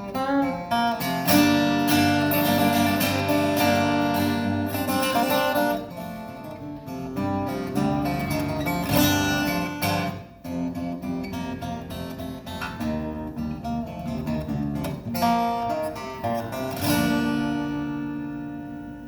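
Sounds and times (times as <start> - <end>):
acoustic guitar playing: 0.0 - 19.0.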